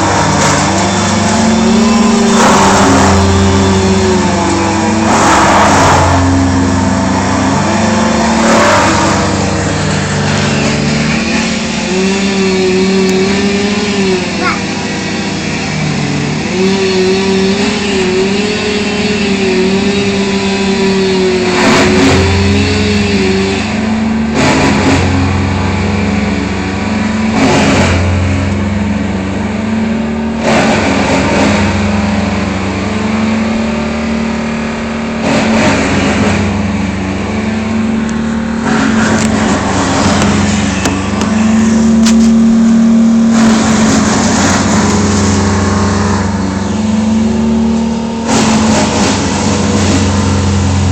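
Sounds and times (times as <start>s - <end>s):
engine running steadily: 0.0s - 50.9s
loud bursts of noise: 0.0s - 50.9s.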